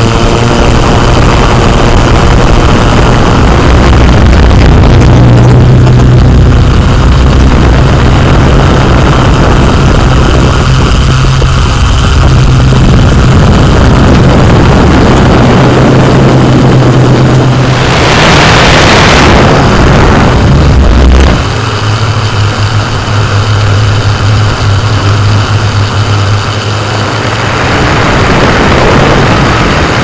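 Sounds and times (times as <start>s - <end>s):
drone propellers humming: 0.0s - 30.0s.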